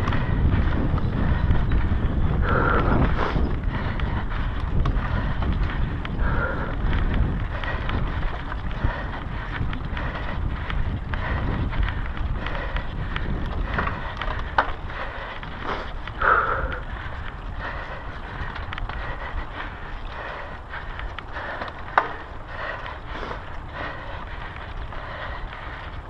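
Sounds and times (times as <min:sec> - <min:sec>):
bike rattling clicks: 0:00.0 - 0:26.0
bike tyre noise on dirt: 0:00.0 - 0:26.0
wind buffeting microphone: 0:00.0 - 0:26.0.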